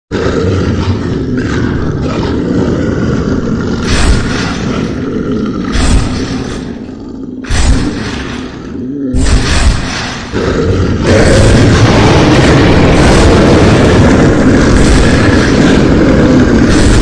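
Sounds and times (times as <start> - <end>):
monster roaring and growling: 0.1 - 17.0.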